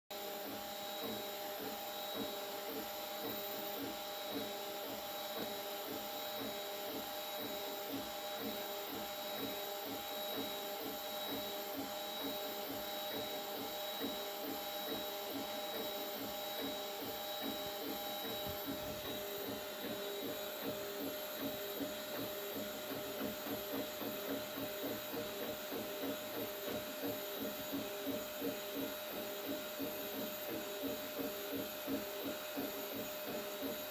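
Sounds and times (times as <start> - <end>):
printer whining tones: 0.1 - 33.9
printer axes pulsing chatter: 0.2 - 33.9.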